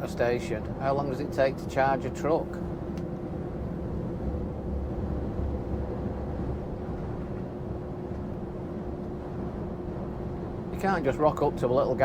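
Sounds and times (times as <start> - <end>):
lorry engine and road rumble: 0.0 - 12.0.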